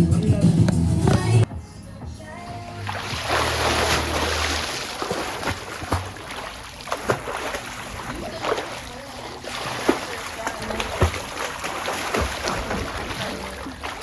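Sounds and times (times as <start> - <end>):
water splashing in a pool: 2.7 - 14.0.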